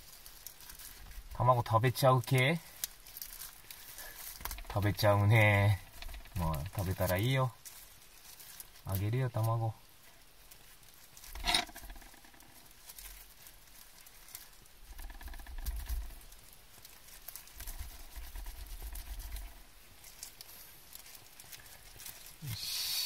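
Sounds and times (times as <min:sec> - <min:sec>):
gloved hands handling fish: 0:00.0 - 0:23.0.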